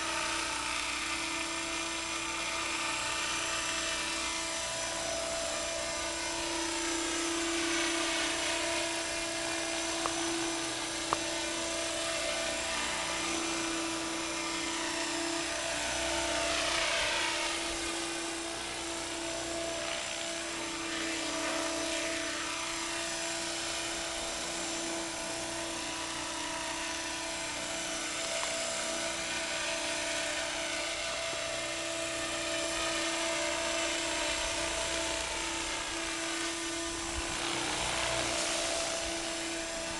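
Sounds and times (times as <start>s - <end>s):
model helicopter motor and rotors whining: 0.0s - 39.9s.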